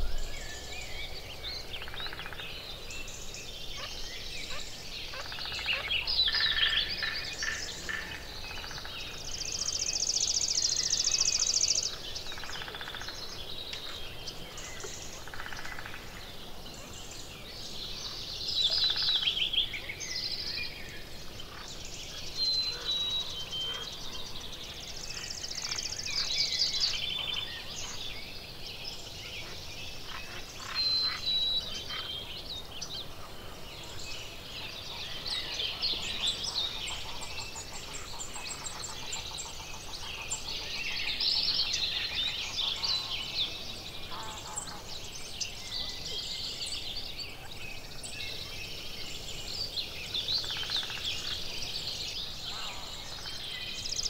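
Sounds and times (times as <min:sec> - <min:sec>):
songbirds singing and calling: 0:00.0 - 0:54.0.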